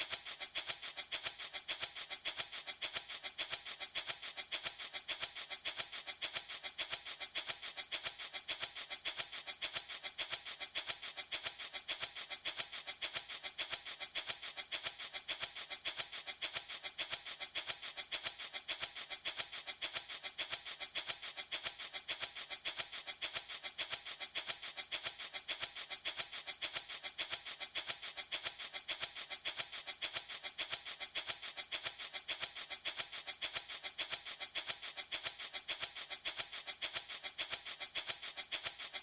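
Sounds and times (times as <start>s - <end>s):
baby rattle shaken: 0.0s - 39.0s.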